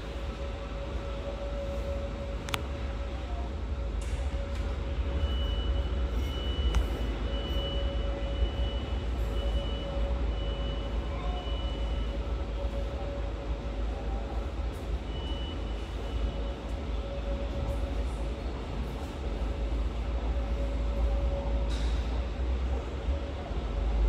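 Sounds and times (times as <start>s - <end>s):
thin high whine: 0.0s - 22.0s
freight train rumbling: 0.0s - 24.0s.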